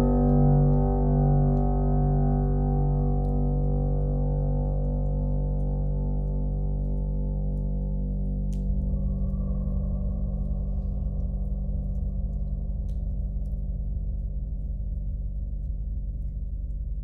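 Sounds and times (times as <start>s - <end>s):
deep steady drone: 0.0s - 17.0s.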